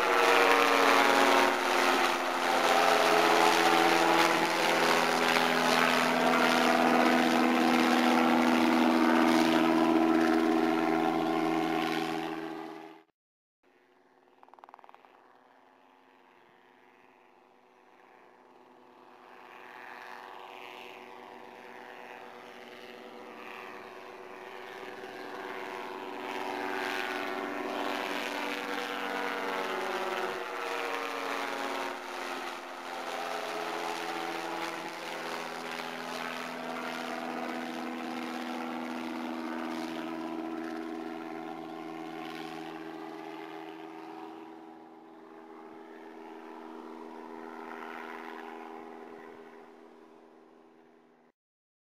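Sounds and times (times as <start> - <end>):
helicopter flying past: 0.0 - 13.1, 13.7 - 51.3.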